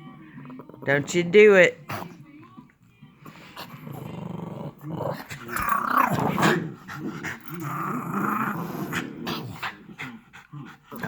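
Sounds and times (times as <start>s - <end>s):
dogs growling in play: 0.0s - 1.2s, 1.8s - 11.0s.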